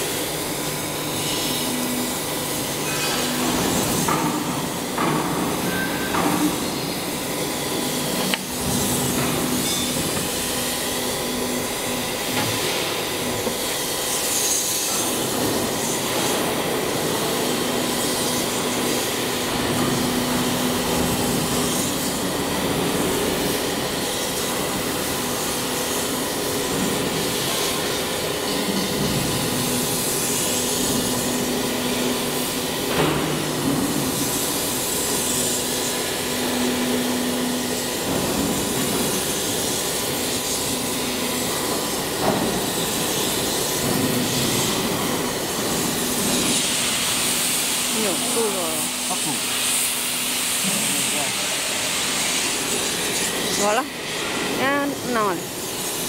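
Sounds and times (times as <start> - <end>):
plate rolling machine running: 0.0 - 56.0.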